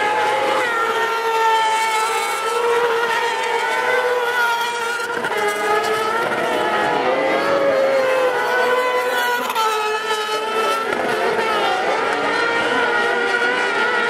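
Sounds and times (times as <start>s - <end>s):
racing engines at high revs: 0.0s - 14.0s.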